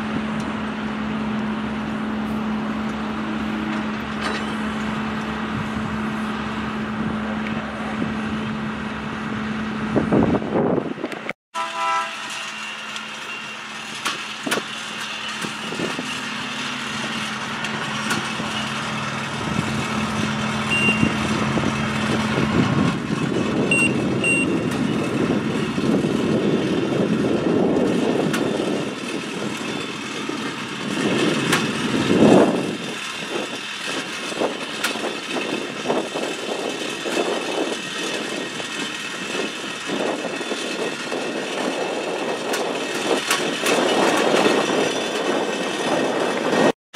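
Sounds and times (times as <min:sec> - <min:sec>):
machine engine rumbling: 0:00.0 - 0:11.4, 0:12.2 - 0:46.8.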